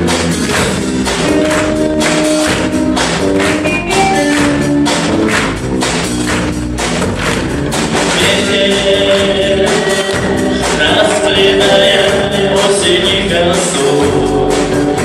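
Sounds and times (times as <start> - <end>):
bass and electric guitars: 0.0 - 15.0
drum kit with cymbals: 0.0 - 15.0.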